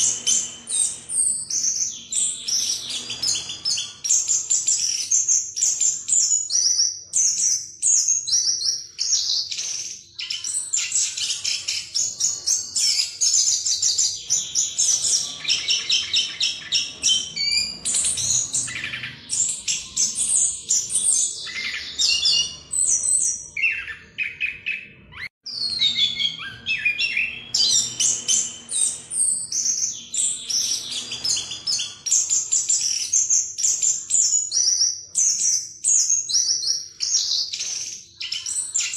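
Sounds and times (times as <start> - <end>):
thrush singing whistles and trills: 0.0 - 38.9.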